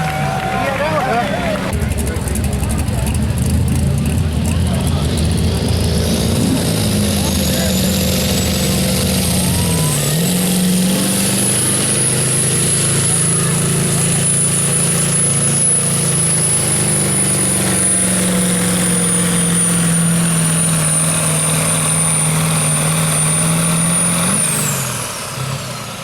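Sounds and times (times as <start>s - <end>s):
truck engine at high revs: 0.0s - 26.0s.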